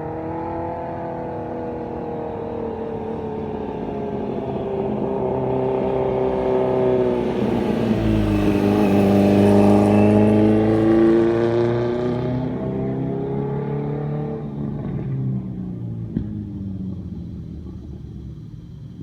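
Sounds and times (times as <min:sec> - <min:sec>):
motorcycle engine approaching: 0:00.0 - 0:19.0.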